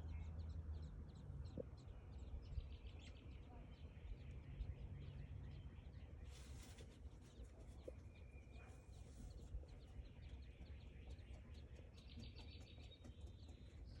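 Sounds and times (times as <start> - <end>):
bird chirps and peeps: 0.0 - 14.0.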